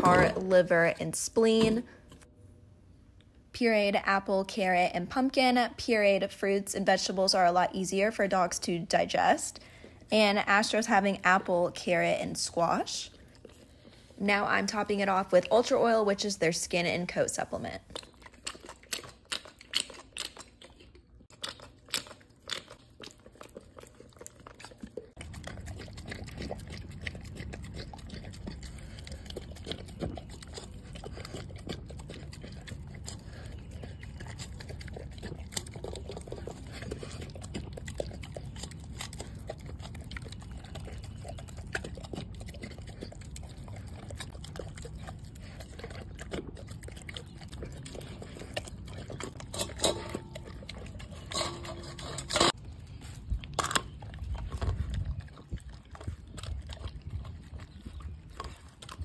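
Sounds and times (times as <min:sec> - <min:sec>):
dog chewing and lapping: 0:00.0 - 0:02.2, 0:04.1 - 0:59.0.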